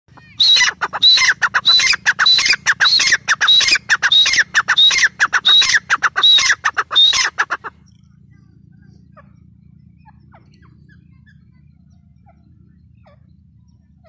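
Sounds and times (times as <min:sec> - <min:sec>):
francolin calling: 0:00.1 - 0:14.0.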